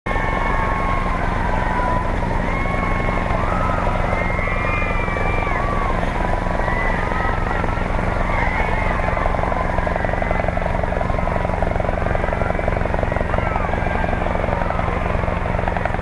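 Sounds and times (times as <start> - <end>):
helicopter rotor chopping: 0.1 - 16.0.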